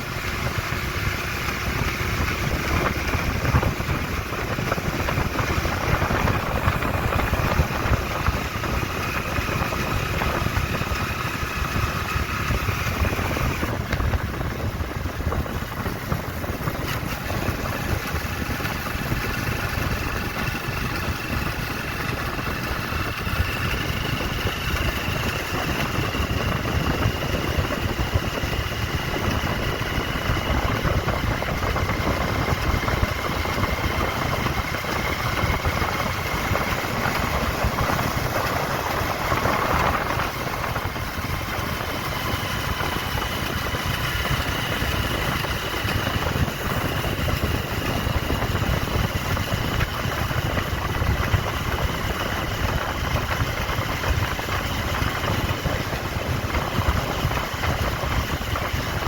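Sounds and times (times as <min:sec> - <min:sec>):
engine running low rumble: 0:00.0 - 0:59.0.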